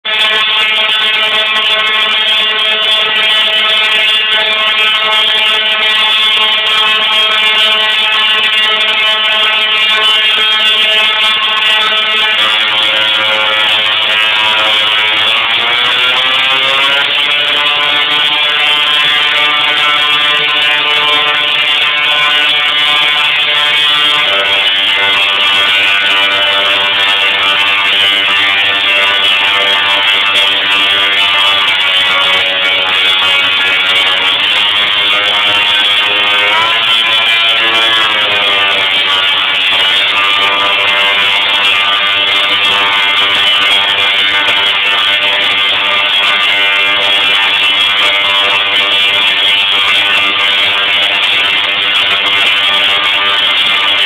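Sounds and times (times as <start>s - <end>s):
tesla coil discharge buzzing: 0.2s - 54.0s.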